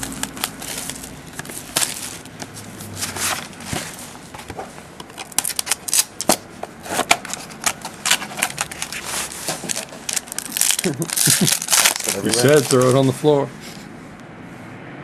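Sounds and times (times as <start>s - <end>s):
cards and packaging handled: 0.0s - 13.8s.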